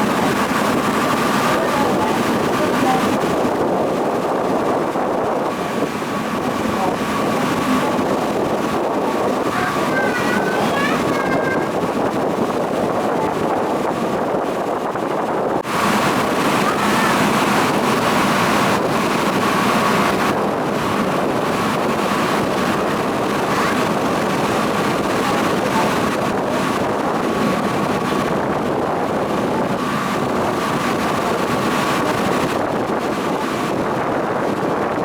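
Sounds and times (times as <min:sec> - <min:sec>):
boat engine drone: 0:00.0 - 0:35.0
wind buffeting microphone: 0:00.0 - 0:35.0.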